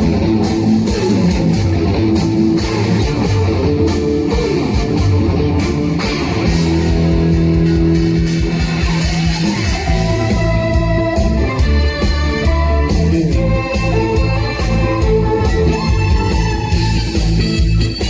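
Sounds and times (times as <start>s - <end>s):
instrumental trot music over speakers: 0.0s - 18.0s.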